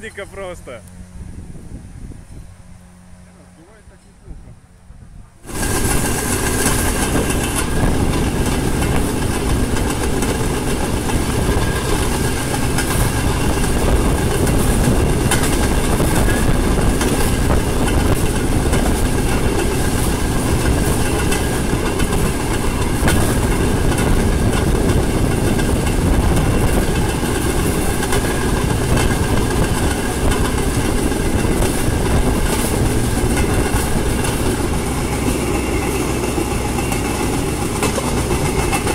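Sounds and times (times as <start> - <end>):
rail trolley running on track: 0.0 - 38.9.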